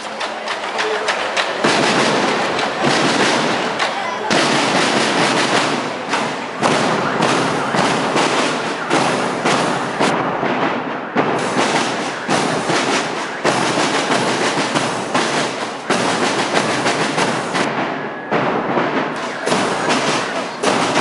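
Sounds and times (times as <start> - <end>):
crowd voices: 0.0 - 21.0
marching band drums and cymbals: 0.0 - 21.0.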